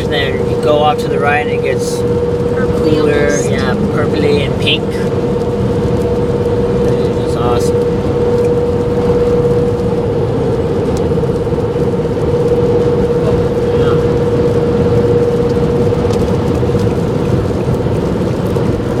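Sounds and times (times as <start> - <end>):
constant hum: 0.0 - 19.0
road and engine noise inside car: 0.0 - 19.0.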